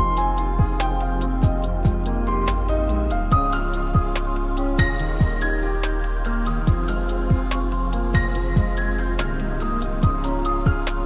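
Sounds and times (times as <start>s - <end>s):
chill electronic music: 0.0s - 11.0s.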